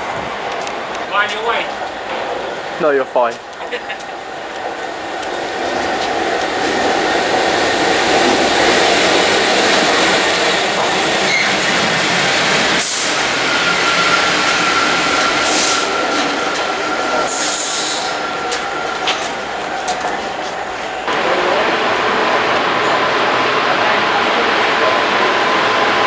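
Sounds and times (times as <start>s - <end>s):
diesel locomotives passing: 0.0s - 26.0s.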